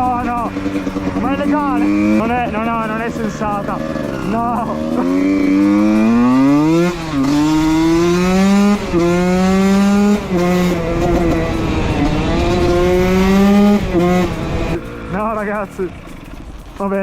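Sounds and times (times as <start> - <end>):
two-stroke engine at full throttle: 0.0 - 17.0.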